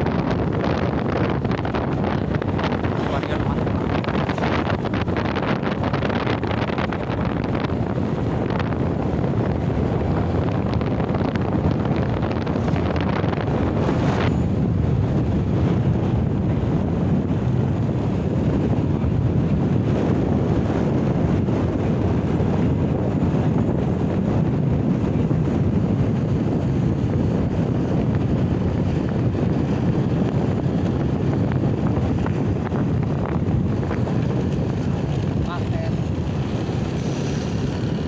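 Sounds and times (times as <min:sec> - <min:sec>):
motorcycle low rumble: 0:00.0 - 0:38.0
wind buffeting microphone: 0:00.0 - 0:38.0.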